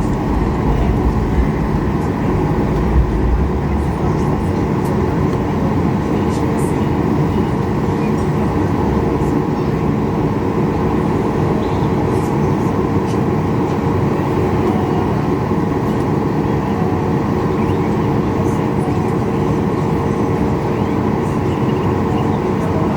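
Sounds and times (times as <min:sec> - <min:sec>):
airplane cabin rumble: 0:00.0 - 0:22.9
faint constant hum: 0:00.0 - 0:22.9.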